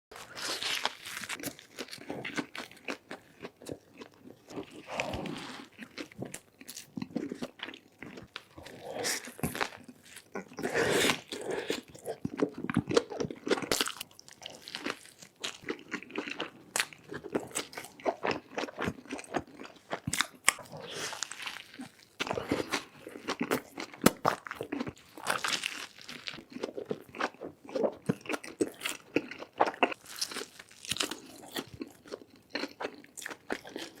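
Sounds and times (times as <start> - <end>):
wet crunchy chewing: 0.2 - 34.0.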